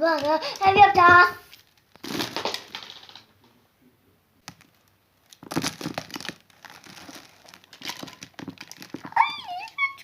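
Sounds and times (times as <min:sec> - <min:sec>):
crinkling and rustling: 0:00.0 - 0:03.6, 0:04.4 - 0:10.0.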